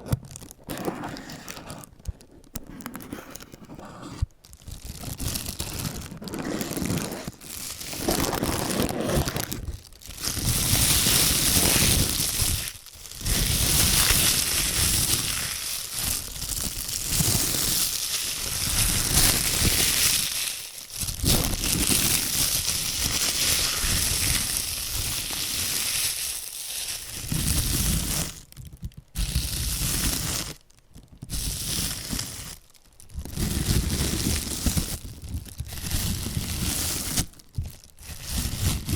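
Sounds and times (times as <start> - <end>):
plastic gloves crinkling: 0.0 - 38.9.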